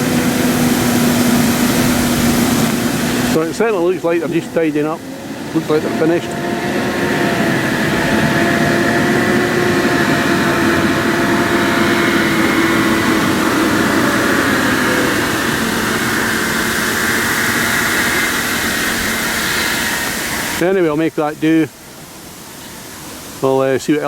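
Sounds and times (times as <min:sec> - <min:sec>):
tractor engine running: 0:00.0 - 0:21.3.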